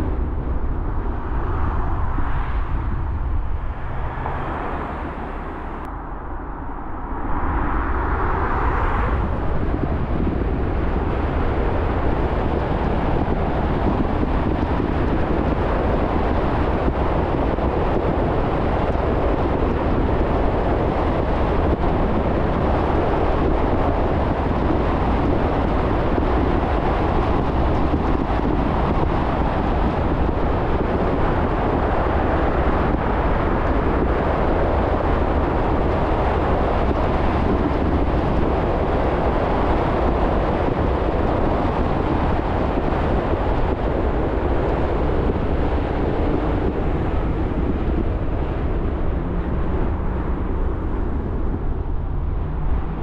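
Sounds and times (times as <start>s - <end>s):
car driving on road: 0.0s - 53.0s.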